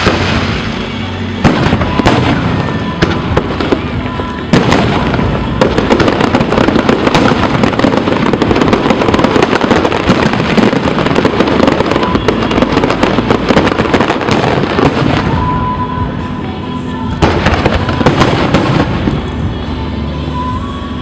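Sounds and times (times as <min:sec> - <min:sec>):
deep firework booms: 0:00.0 - 0:00.8, 0:01.4 - 0:15.7, 0:17.2 - 0:19.5
fireworks crackling and popping: 0:00.0 - 0:16.4, 0:17.0 - 0:20.6.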